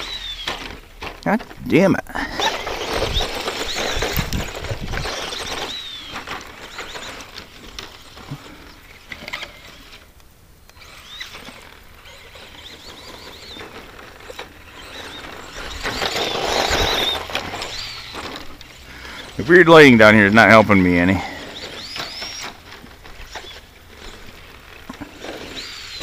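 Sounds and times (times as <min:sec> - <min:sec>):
electric motor whining: 0:00.0 - 0:01.2, 0:02.3 - 0:10.1, 0:10.7 - 0:26.0
tyres crunching on dirt: 0:00.0 - 0:26.0.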